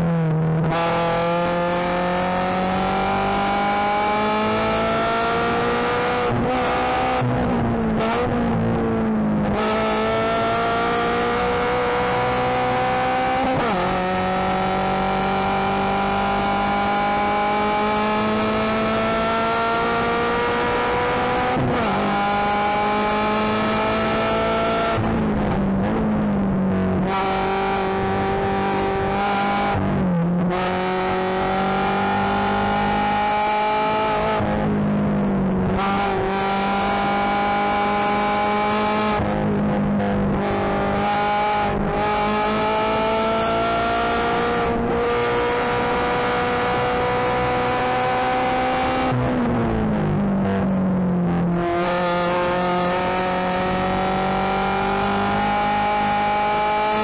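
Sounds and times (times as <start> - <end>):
race car engine revving: 0.6 - 57.0.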